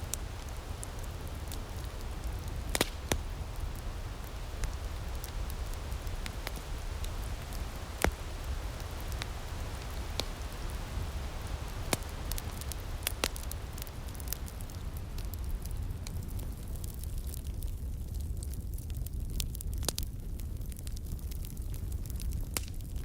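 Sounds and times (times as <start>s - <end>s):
firepit crackling and popping: 0.0s - 23.0s.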